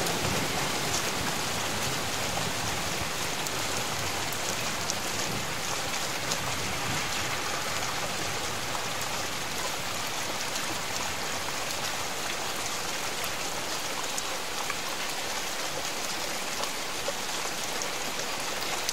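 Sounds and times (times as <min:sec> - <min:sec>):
steady rain: 0:00.0 - 0:18.9.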